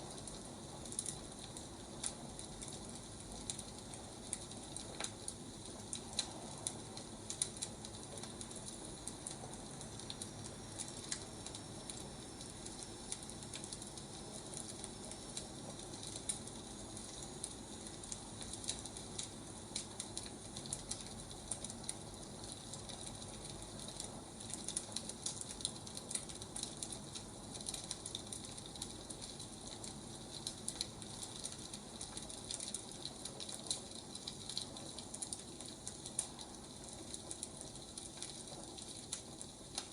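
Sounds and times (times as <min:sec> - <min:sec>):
fire crackles and pops: 0:00.0 - 0:39.9
firewood burning hiss: 0:00.0 - 0:39.9.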